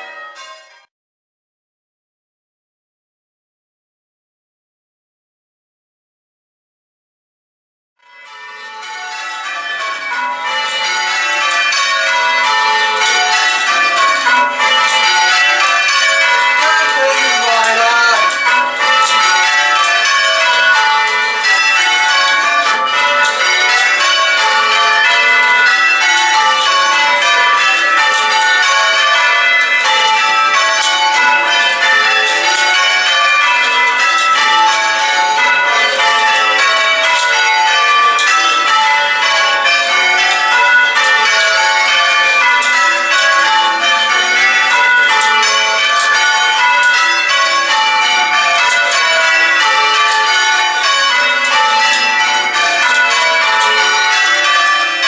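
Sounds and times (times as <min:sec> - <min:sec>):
church bells change-ringing: 0:00.0 - 0:00.9, 0:08.0 - 0:55.0.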